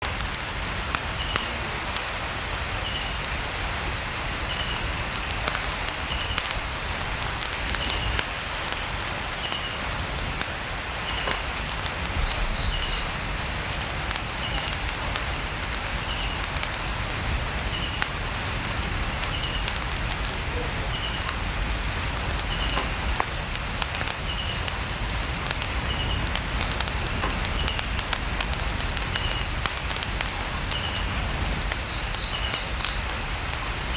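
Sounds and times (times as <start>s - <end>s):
crackling campfire: 0.0s - 33.9s
light rain on a tent roof: 0.0s - 33.9s.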